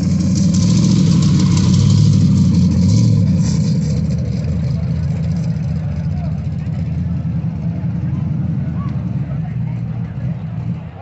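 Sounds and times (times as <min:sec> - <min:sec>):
loud engine driving past: 0:00.0 - 0:11.0.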